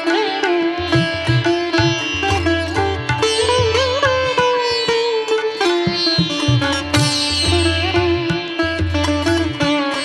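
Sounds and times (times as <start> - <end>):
plucked-string melody with bending notes: 0.0 - 10.0.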